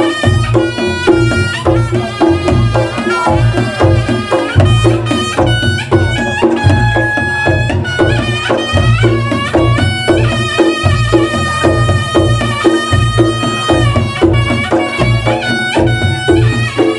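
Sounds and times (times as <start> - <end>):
rapid hand drumming: 0.0 - 16.9
shrill reed shawm melody: 0.0 - 16.9.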